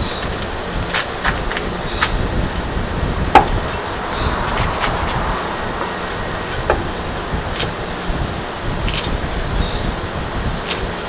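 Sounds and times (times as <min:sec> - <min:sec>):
low background rumble: 0:00.0 - 0:10.7.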